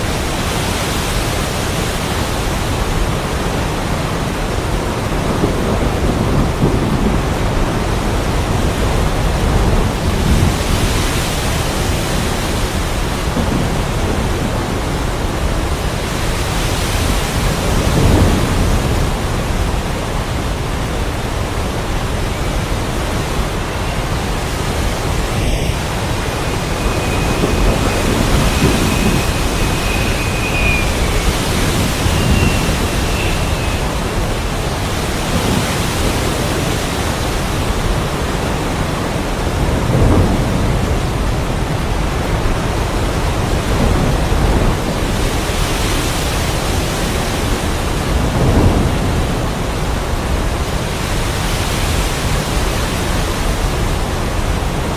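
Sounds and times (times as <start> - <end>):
thunder rolling: 0.0 - 45.7, 46.5 - 51.3
heavy rain: 0.0 - 54.9.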